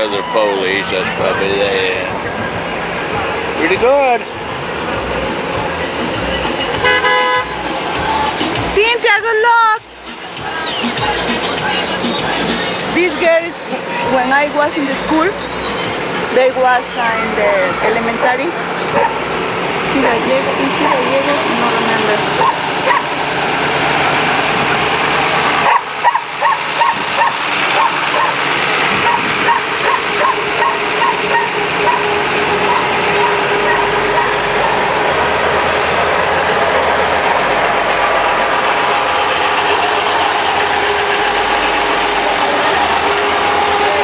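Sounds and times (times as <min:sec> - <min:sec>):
truck engines humming: 0:00.0 - 0:44.0.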